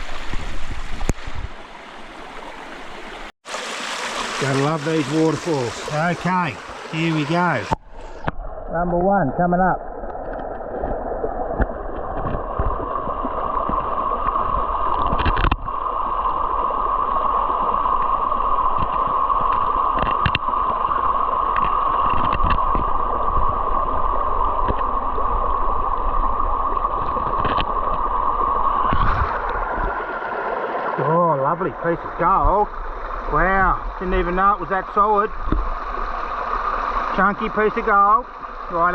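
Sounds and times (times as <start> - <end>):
muffled waterfall rushing underwater: 0.0 - 38.9.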